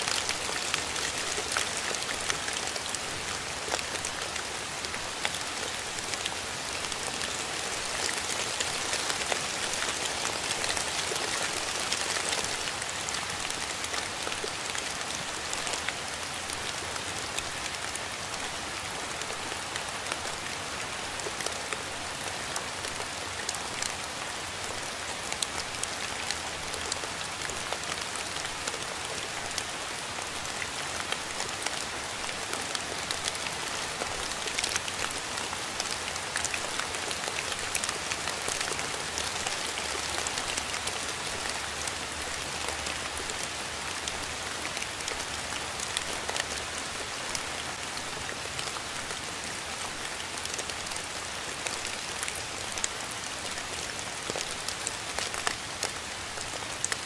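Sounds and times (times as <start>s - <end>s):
rain falling: 0.0s - 57.0s
raindrops pattering: 0.0s - 57.0s.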